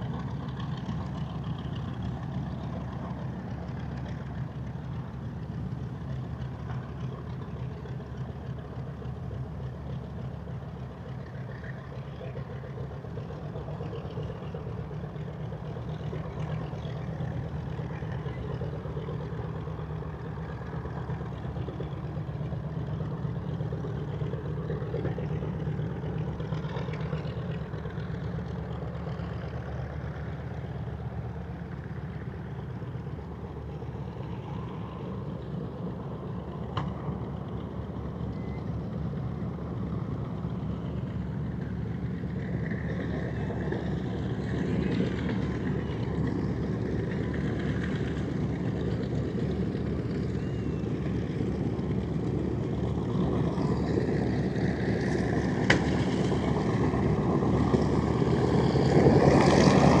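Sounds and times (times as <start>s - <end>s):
piston aircraft engines droning: 0.0s - 60.0s.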